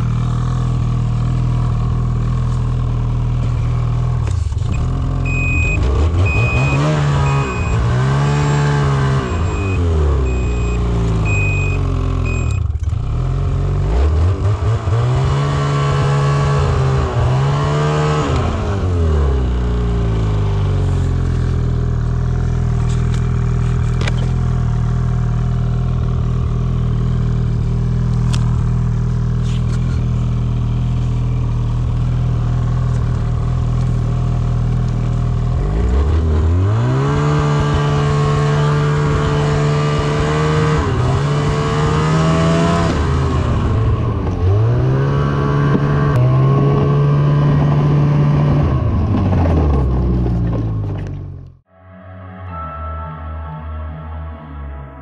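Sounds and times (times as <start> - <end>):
snowmobile engine: 0.0 - 50.2.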